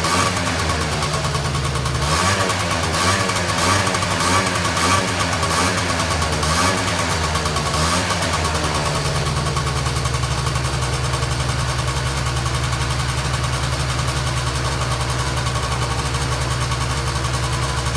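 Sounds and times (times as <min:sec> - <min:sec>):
scooter engine idling: 0:00.0 - 0:17.9.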